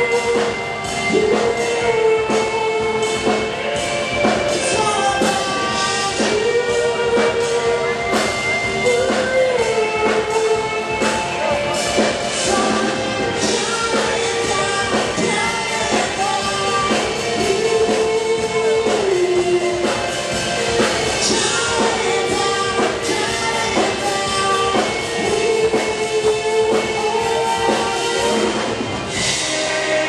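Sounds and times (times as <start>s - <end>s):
drum kit beat: 0.0s - 30.0s
guitars: 0.0s - 30.0s
rock band playing live: 0.0s - 30.0s.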